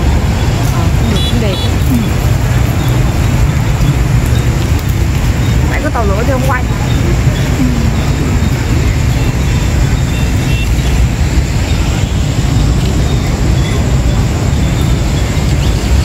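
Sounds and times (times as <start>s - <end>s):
road traffic rumble on wet street: 0.0s - 16.0s.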